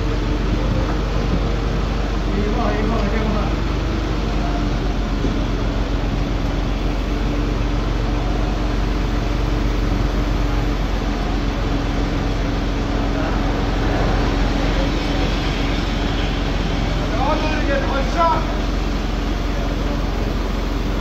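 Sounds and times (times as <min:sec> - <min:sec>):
crane engine low rumble: 0:00.0 - 0:21.0
hydraulic pump hum: 0:00.0 - 0:21.0.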